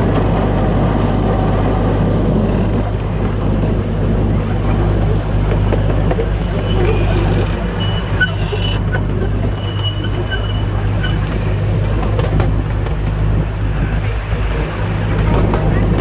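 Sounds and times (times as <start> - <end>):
ride train rumbling: 0.0 - 16.0.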